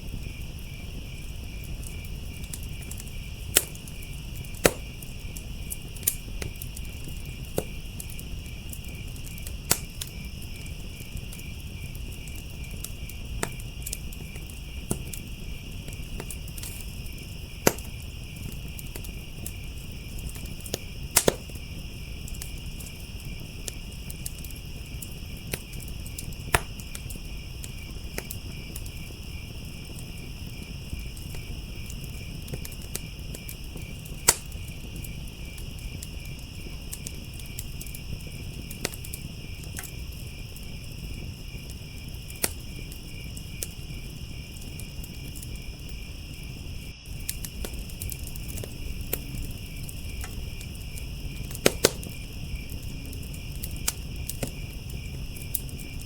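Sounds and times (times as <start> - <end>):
crickets chirping: 0.0 - 56.0
wood fire crackling and popping: 0.0 - 56.0.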